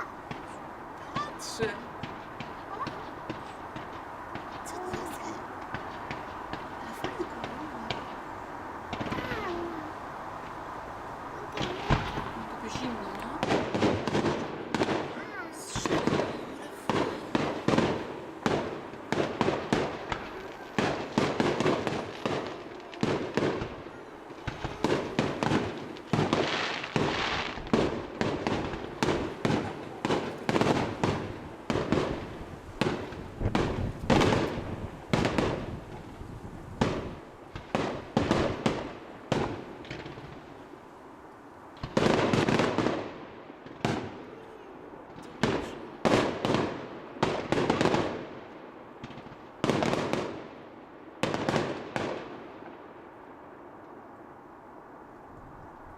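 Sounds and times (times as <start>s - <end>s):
fireworks bursting: 0.0s - 54.1s.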